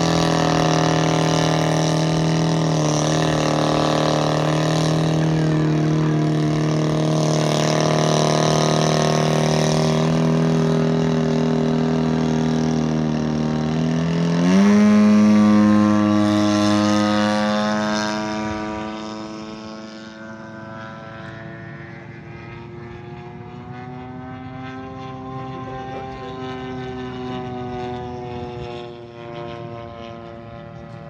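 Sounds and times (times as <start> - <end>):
model airplane engine: 0.0 - 31.0.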